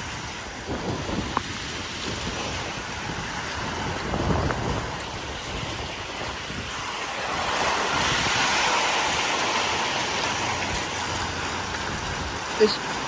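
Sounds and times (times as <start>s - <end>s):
heavy rain: 0.0s - 13.0s
wind gusts: 0.0s - 13.0s.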